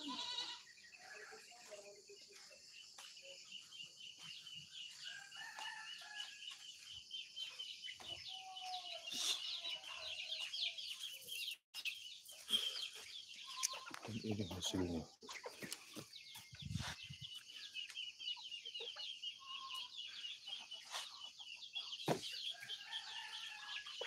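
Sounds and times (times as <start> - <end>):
chickens clucking and calling: 3.4 - 24.0.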